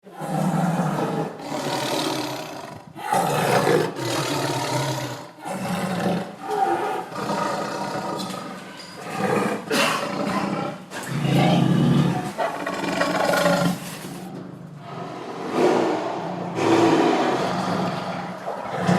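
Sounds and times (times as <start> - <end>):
tiger roaring: 0.0 - 18.9.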